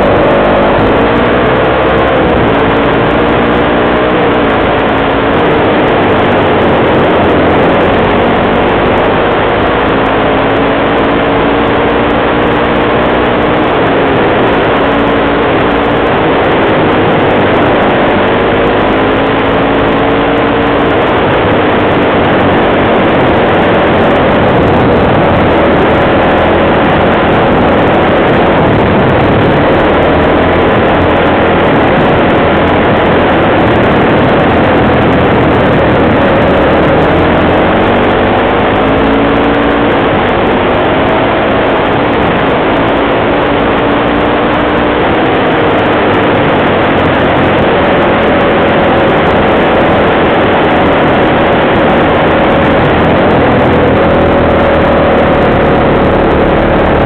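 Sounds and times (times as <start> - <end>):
gravel noise: 0.0 - 57.0
heavy wind: 0.0 - 57.0
off-road vehicle engine: 0.0 - 57.0.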